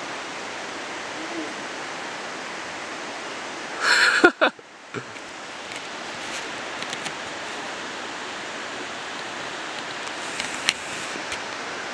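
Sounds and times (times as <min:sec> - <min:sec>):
steady rushing noise: 0:00.0 - 0:11.9.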